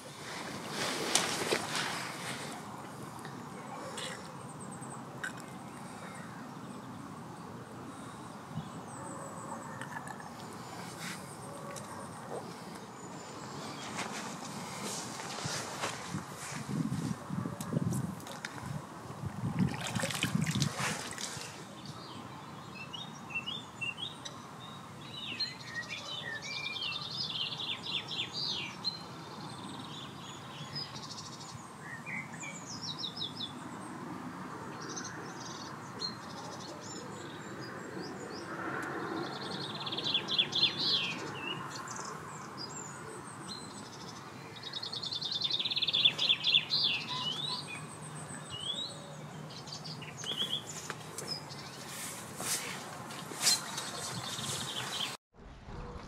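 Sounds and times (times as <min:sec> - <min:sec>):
songbirds chirping and trilling: 0:00.0 - 0:55.2.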